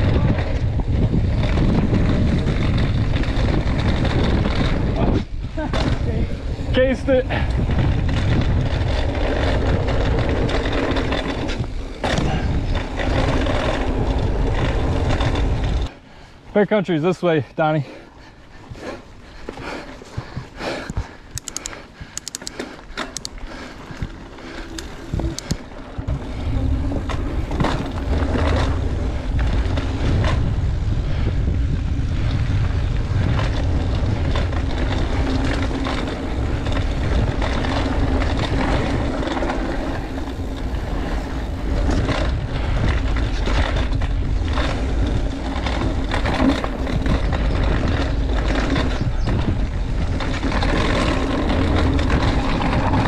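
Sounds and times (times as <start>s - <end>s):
wind rumble on microphone: 0.0s - 16.0s, 18.2s - 22.6s, 23.2s - 53.0s
bike rattling over bumps: 0.0s - 16.2s, 16.9s - 53.0s
bike tyres rolling on dirt: 0.0s - 53.0s.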